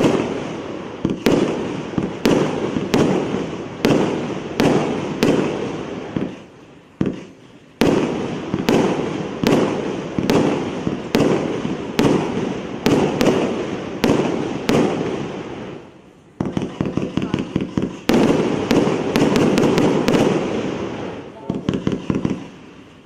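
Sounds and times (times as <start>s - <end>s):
fireworks shells bursting: 0.0s - 23.0s.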